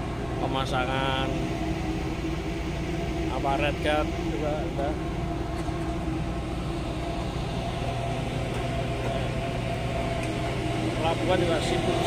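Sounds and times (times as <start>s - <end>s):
deep drone: 0.0s - 12.0s
machinery humming: 0.0s - 12.0s.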